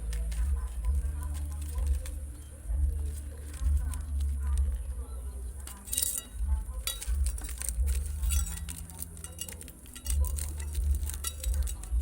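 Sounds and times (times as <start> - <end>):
light clicks and clinks: 0.0 - 12.0.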